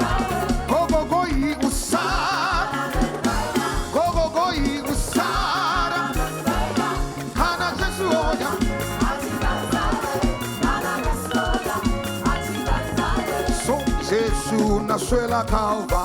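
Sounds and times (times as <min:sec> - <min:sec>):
upbeat gospel band music: 0:00.0 - 0:16.0.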